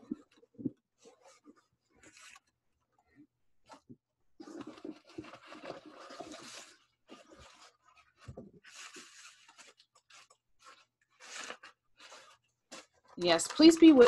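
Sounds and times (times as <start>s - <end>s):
packing wrap rustling and crinkling: 0.0s - 2.5s, 4.4s - 14.0s.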